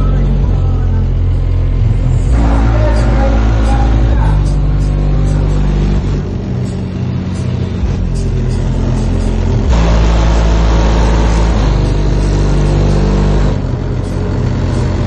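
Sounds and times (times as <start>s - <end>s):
bass-heavy music through car speakers: 0.0s - 15.0s.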